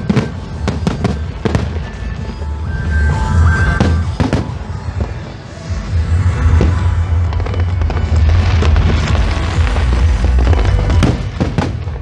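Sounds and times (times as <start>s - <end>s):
fireworks bangs and crackles: 0.0s - 12.0s
steady low rumble: 0.0s - 12.0s.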